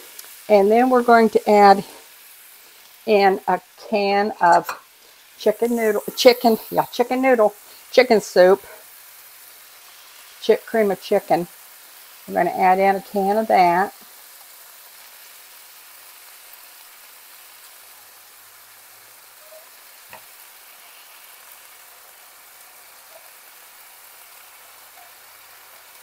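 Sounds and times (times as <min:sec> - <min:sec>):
meat sizzling in a skillet: 0:00.0 - 0:26.0.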